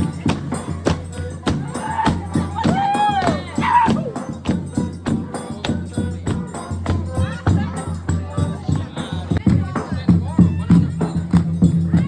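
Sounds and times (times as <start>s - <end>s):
person singing: 0.0s - 11.2s
music with steady beat: 0.0s - 12.0s.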